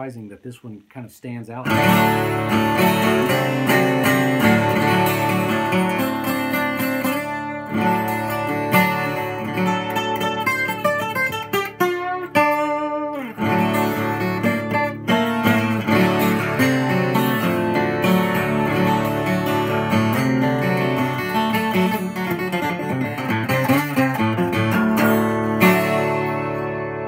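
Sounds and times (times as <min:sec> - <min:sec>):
twelve-string acoustic guitar: 0:01.6 - 0:27.0.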